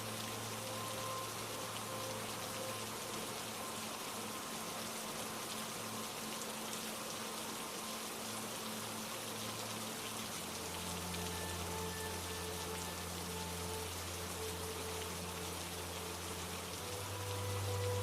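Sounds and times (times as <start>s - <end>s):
low musical drone: 0.0s - 18.0s
steady rain falling: 0.0s - 18.0s.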